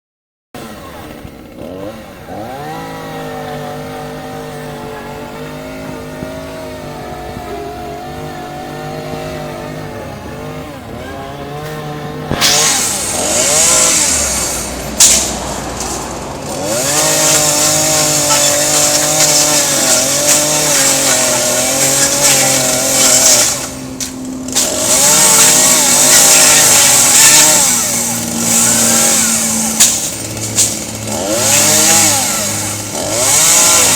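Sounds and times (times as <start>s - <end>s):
chainsaw idling and cutting: 0.6s - 33.9s.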